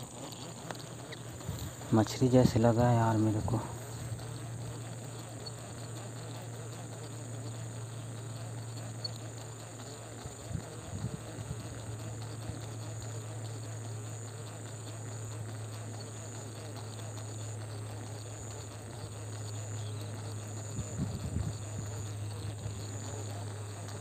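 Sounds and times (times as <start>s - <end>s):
insects chirring: 0.0s - 24.0s
low steady hum: 0.0s - 24.0s.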